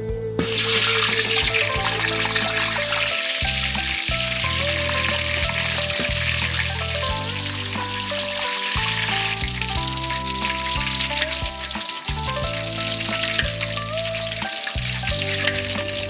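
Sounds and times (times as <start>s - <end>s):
background music with held notes: 0.0s - 16.0s
food sizzling in a pan: 0.5s - 16.0s.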